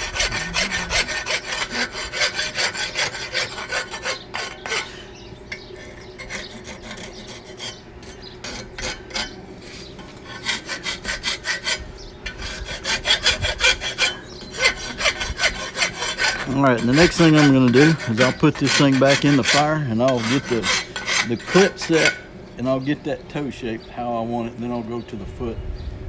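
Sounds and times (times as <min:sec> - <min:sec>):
file rasping on metal: 0:00.0 - 0:22.3.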